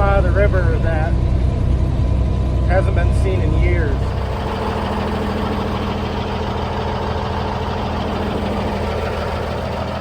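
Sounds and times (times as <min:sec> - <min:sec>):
road noise: 0:00.0 - 0:10.0
vehicle engine running: 0:00.0 - 0:10.0.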